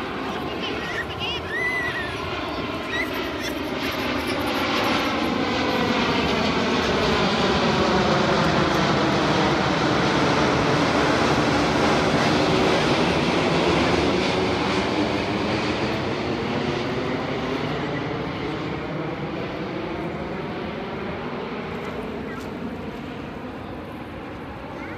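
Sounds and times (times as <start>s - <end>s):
jet airliner passing overhead: 0.0s - 24.9s.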